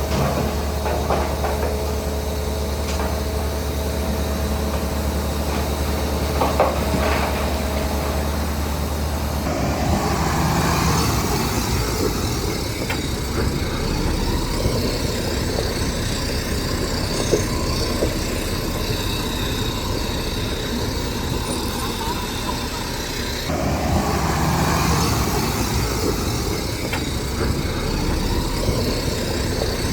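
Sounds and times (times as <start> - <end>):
heavy diesel machinery running: 0.0 - 29.9
knocks and clanks: 0.0 - 29.9.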